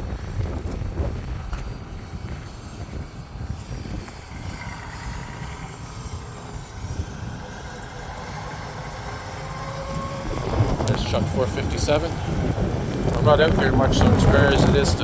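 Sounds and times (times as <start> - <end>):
fire truck diesel engine rumbling: 0.0 - 15.0.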